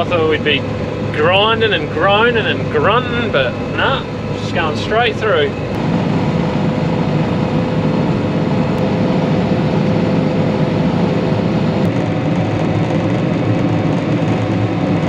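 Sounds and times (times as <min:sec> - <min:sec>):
combine harvester running: 0:00.0 - 0:15.0
machine whine: 0:00.0 - 0:15.0.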